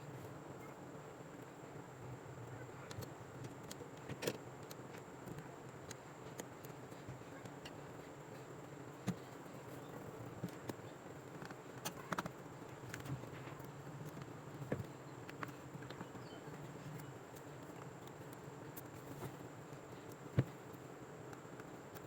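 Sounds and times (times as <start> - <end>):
faint hum and hiss: 0.0 - 22.0.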